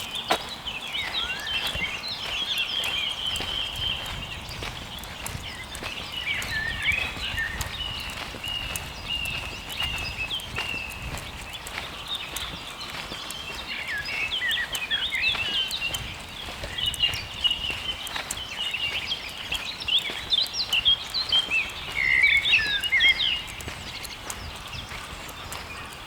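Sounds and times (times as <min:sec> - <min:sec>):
footsteps on dry leaves: 0:00.0 - 0:26.0
songbirds chirping: 0:00.0 - 0:26.0.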